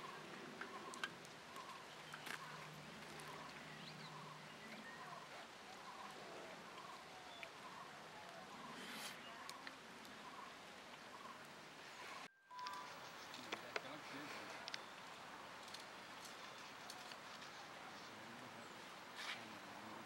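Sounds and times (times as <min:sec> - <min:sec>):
burning wood crackling: 0:00.0 - 0:20.0.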